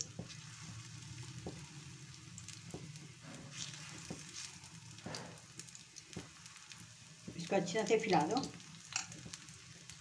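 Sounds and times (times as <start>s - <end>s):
batter sizzling in a pan: 0.0s - 10.0s.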